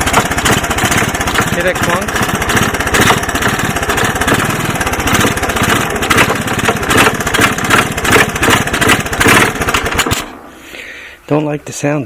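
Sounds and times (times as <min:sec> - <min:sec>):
four-stroke engine running: 0:00.0 - 0:10.4.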